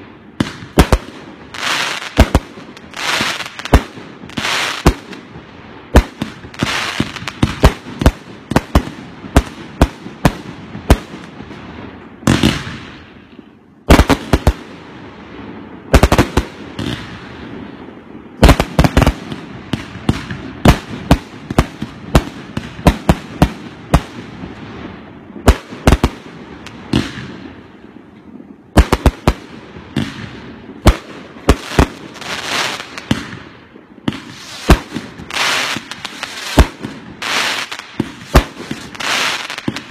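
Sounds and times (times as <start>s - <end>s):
fireworks banging: 0.0s - 14.8s, 15.4s - 39.9s.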